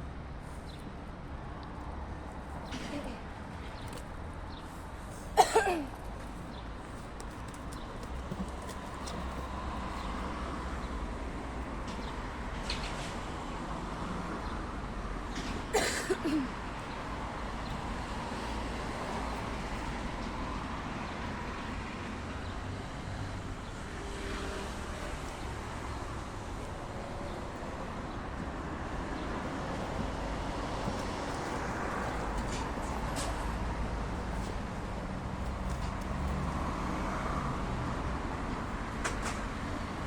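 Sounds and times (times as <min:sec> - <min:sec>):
distant road traffic rumble: 0:00.0 - 0:40.0.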